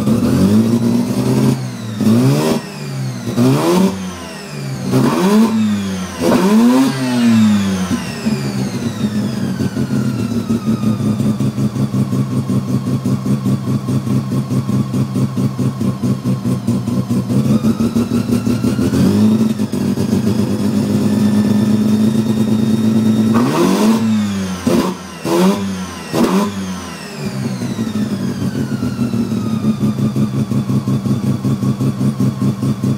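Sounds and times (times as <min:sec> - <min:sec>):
rotary engine revving: 0:00.0 - 0:12.7, 0:16.1 - 0:31.4.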